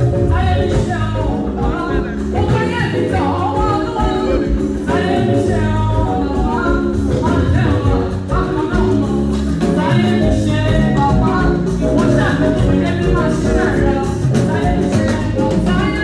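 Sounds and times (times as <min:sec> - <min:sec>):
amplified band: 0:00.0 - 0:16.0
steady bass: 0:00.0 - 0:16.0.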